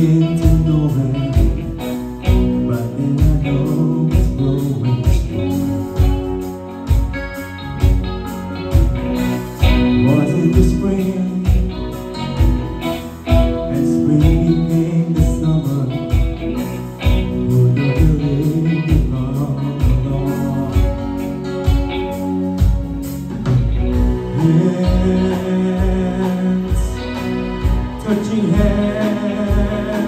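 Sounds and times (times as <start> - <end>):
electric bass: 0.0 - 30.0
electric guitar: 0.0 - 30.0.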